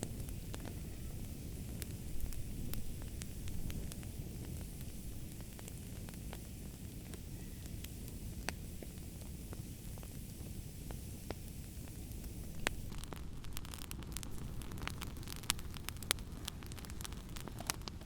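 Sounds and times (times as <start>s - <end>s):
fire pops and snaps: 0.0s - 18.0s
wood fire crackling: 0.0s - 18.0s.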